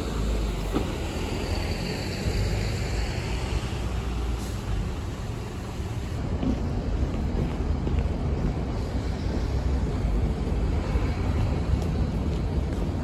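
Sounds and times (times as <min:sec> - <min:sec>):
large truck nearby: 0:00.0 - 0:13.0
traffic engines rumbling: 0:00.0 - 0:13.0.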